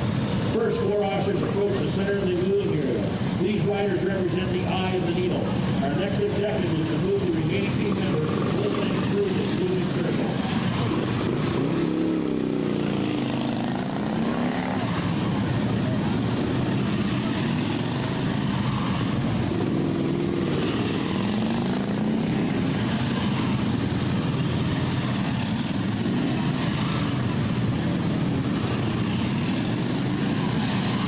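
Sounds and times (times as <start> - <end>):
motorcycle engines droning: 0.0 - 31.0.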